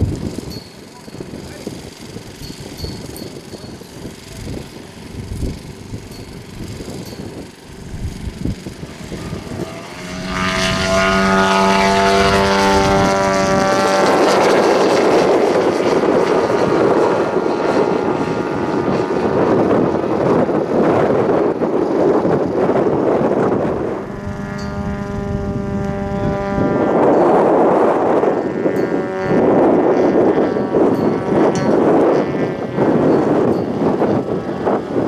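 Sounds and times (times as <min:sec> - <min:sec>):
model airplane engine drone: 0:00.0 - 0:35.0.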